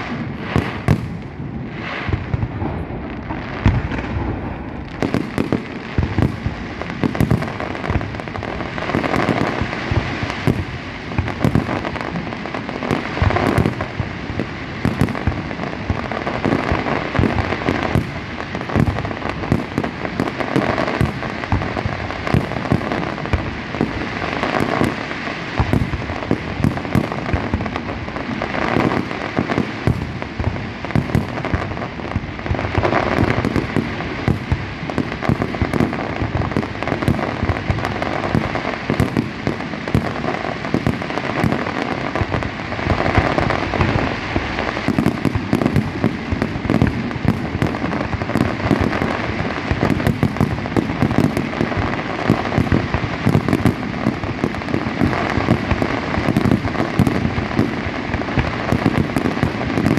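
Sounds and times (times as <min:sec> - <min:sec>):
fireworks bangs and crackle: 0:00.0 - 0:59.9.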